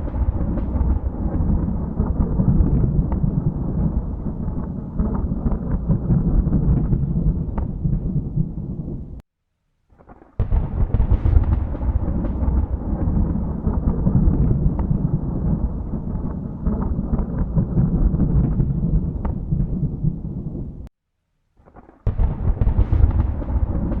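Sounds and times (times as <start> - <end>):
thunder rumbling: 0.0 - 9.2, 10.4 - 20.9, 22.1 - 24.0.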